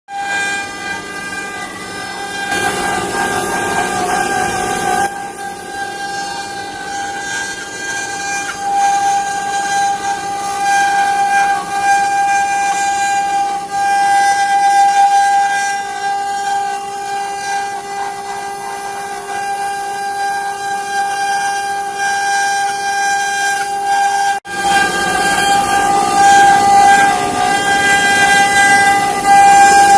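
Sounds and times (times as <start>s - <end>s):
wood-carving router whining: 0.1s - 29.9s.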